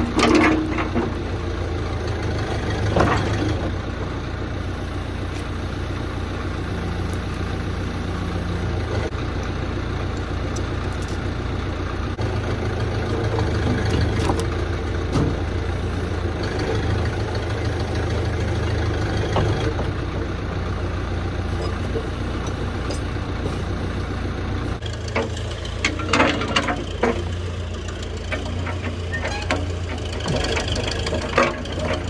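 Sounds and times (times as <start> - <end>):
heavy machinery engine running: 0.0 - 32.0.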